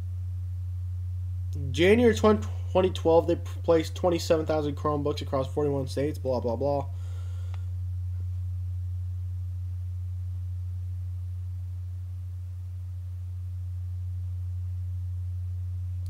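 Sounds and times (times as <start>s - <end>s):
deep hum: 0.0s - 16.0s.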